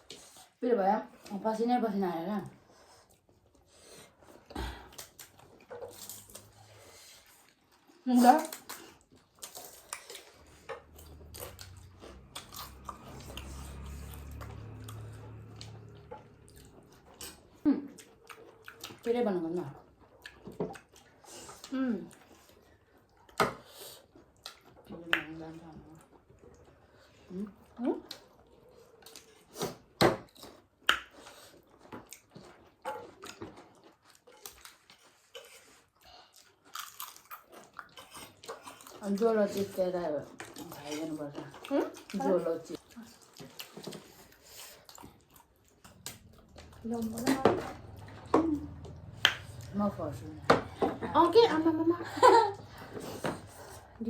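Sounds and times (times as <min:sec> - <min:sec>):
chewing and biting: 0:02.8 - 0:50.8.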